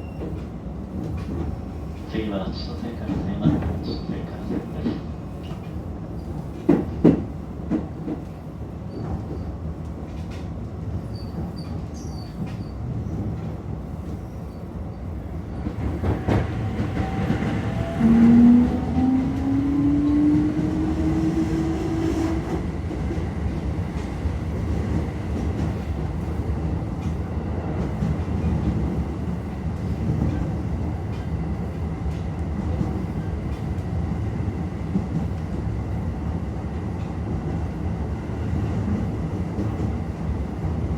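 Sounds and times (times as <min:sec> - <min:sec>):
train wheels rolling on rails: 0:00.0 - 0:40.9.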